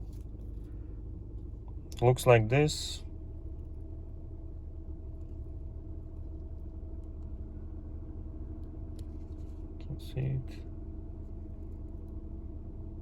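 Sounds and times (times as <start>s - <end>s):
faint constant hum: 0.0s - 13.0s
low mechanical rumble: 0.0s - 13.0s.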